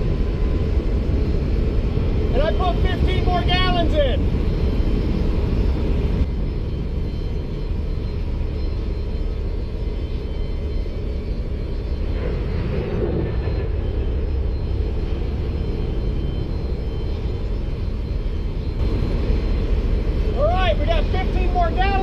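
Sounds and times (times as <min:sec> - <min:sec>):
low machinery rumble: 0:00.0 - 0:22.0.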